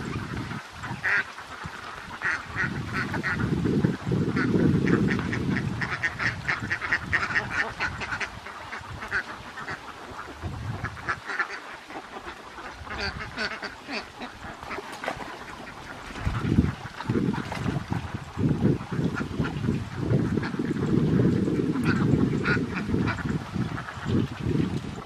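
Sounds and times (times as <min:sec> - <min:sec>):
ducks quacking: 0:00.1 - 0:03.6, 0:04.4 - 0:21.0, 0:21.6 - 0:24.2.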